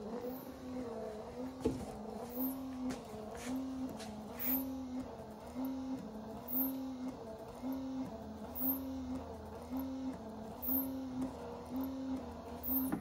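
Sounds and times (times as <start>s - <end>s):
electric windshield wipers running: 0.0s - 13.0s.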